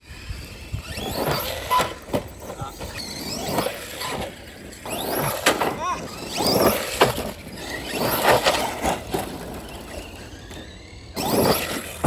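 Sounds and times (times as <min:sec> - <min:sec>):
gear and tyre noise: 0:00.0 - 0:12.0
rc truck motor whine: 0:00.0 - 0:12.0.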